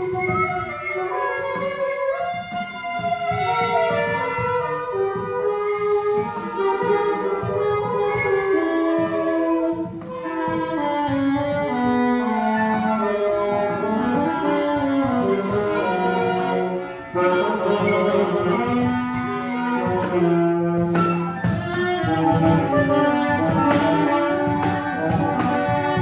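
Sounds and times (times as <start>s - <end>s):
saxophone and clarinet improvising: 0.0s - 26.0s.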